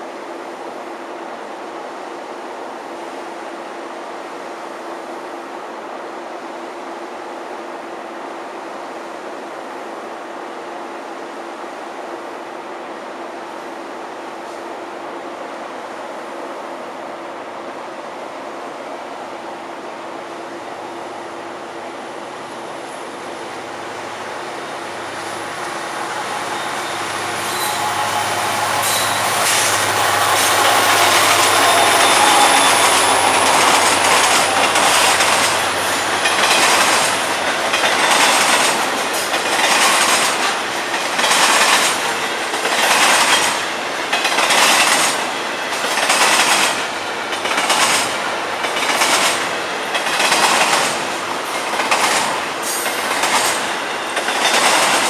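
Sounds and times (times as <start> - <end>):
train engine drone: 0.0 - 55.0.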